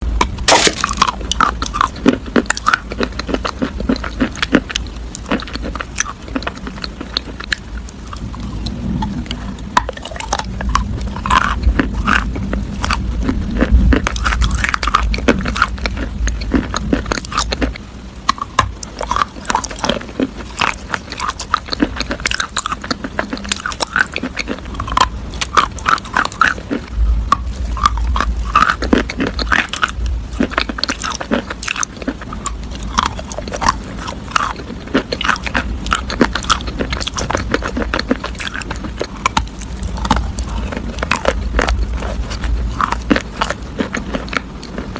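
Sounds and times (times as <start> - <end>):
crunchy food being chewed: 0.1 - 44.9.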